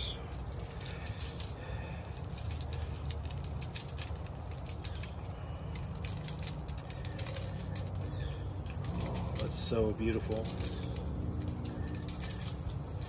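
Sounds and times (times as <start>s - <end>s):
granules pattering onto meat: 0.0s - 13.0s
steady low rumble: 0.0s - 13.0s.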